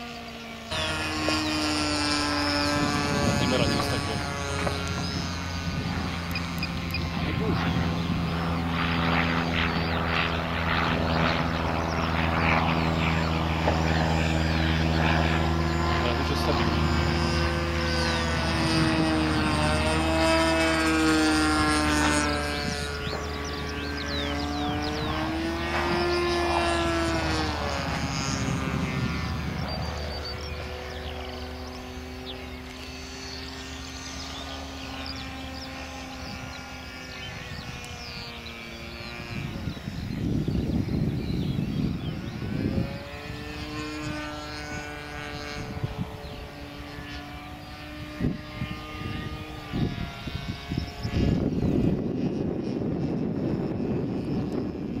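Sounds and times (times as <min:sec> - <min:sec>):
model plane engine droning: 0:00.0 - 0:55.0
wind on microphone: 0:00.0 - 0:55.0.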